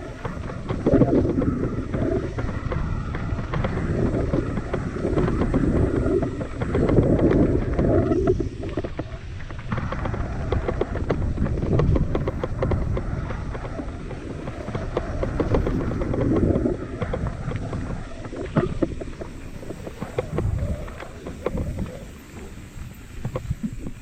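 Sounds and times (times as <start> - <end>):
small rattles and clicks: 0.0 - 24.0
wind buffeting microphone: 0.0 - 24.0.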